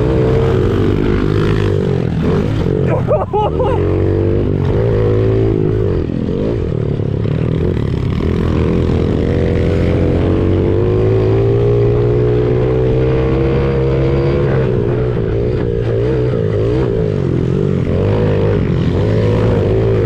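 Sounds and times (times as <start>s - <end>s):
small motorbike engine running hard: 0.0s - 20.0s.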